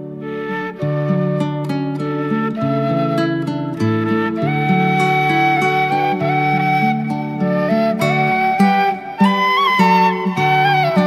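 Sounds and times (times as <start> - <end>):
flute-like melody: 0.0 - 11.0
soft plucked accompaniment: 0.0 - 11.0.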